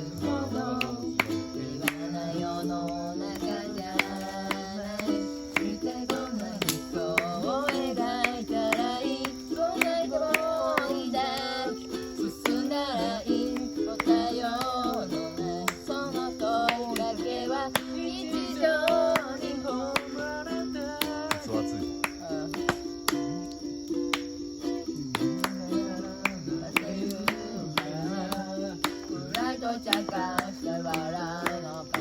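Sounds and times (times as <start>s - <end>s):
person singing: 0.0s - 32.0s
ukulele strumming: 0.0s - 32.0s.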